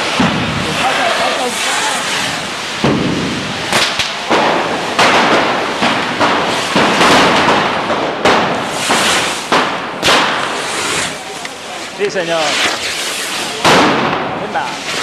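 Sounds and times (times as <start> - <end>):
rockets hissing and spitting: 0.0 - 15.0
sharp cracks: 0.0 - 15.0.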